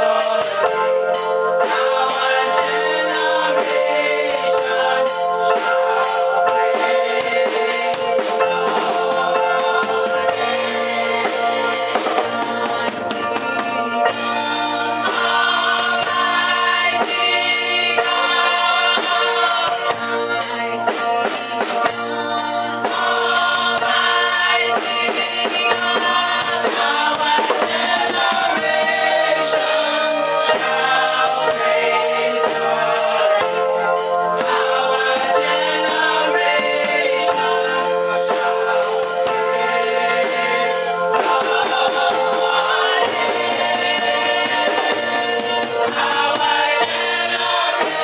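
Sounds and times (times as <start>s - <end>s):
choir singing gospel: 0.0s - 48.0s
drum kit steady beat: 0.0s - 48.0s.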